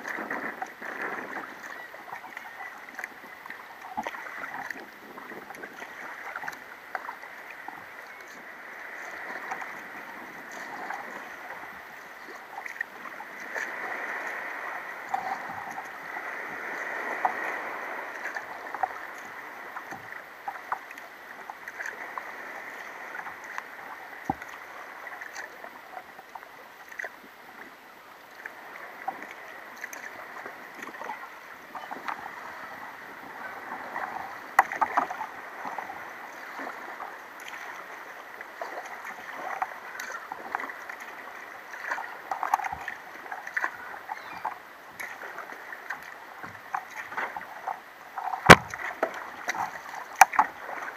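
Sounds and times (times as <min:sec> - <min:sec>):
paddle splashing water: 0:00.0 - 0:50.9.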